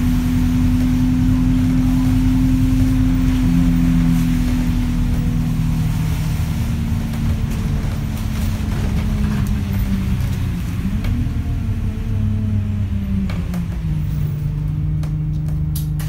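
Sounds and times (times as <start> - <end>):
bus diesel engine running: 0.0 - 16.0
road rumble: 0.0 - 16.0.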